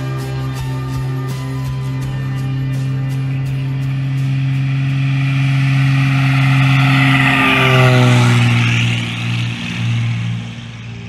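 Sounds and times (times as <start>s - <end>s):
propeller plane passing: 0.0s - 11.0s.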